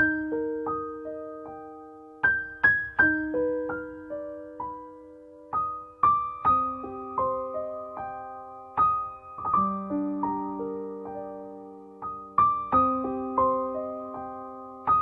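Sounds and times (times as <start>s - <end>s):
slow solo piano melody: 0.0s - 15.0s.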